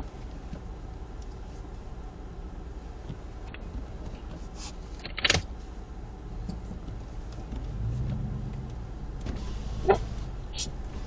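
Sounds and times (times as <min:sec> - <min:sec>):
vehicle driving rumble: 0:00.0 - 0:11.0.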